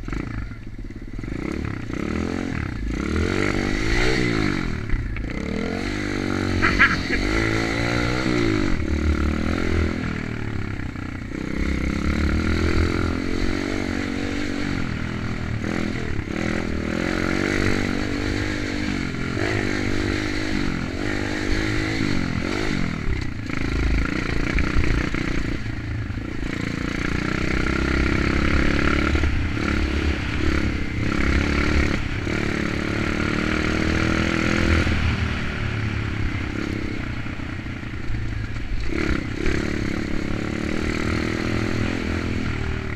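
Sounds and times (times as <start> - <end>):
motorbike engine revving: 0.0 - 37.6, 38.5 - 42.9.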